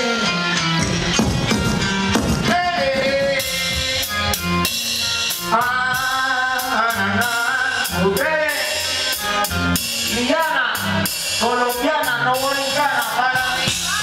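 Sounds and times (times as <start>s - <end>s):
bass notes: 0.0s - 14.0s
drum kit beat: 0.0s - 14.0s.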